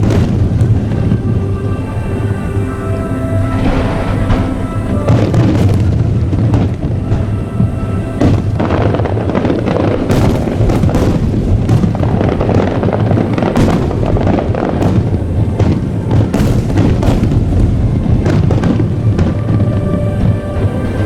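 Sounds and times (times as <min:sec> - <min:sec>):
faint music: 0:00.0 - 0:21.0
fireworks booming and crackling: 0:00.0 - 0:21.0.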